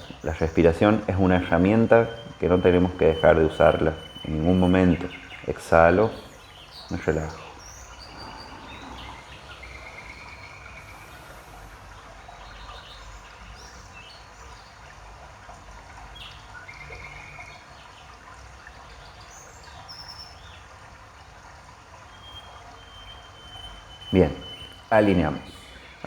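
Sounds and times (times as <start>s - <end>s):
birds chirping: 0.0s - 26.0s
steady low background noise: 0.0s - 26.0s.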